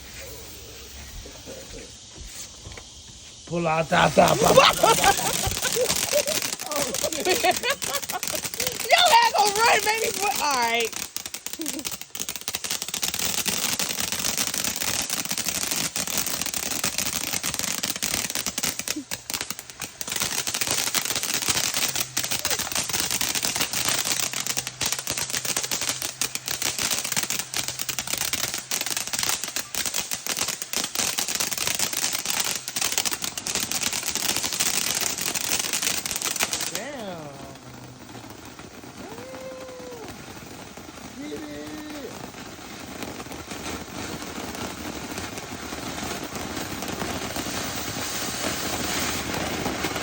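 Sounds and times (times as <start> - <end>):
fireworks crackling: 0.0 - 50.0.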